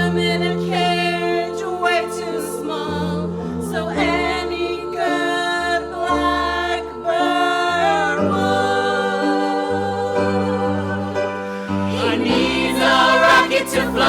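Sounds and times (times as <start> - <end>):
voices singing held notes: 0.0 - 14.0.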